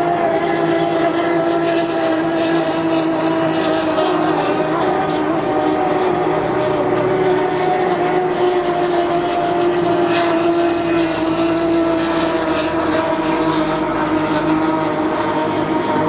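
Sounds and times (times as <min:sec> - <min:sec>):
powerboat engines droning: 0:00.0 - 0:16.0.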